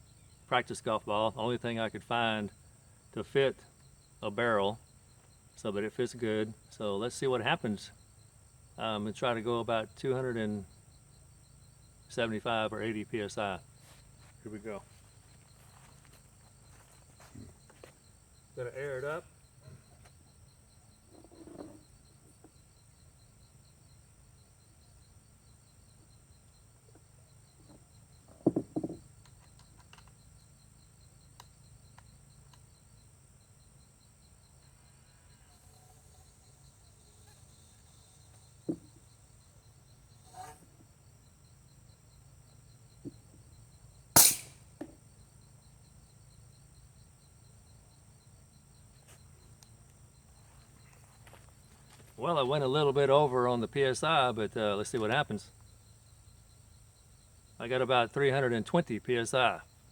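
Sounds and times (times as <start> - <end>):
high insect chirring: 0.0 - 59.9.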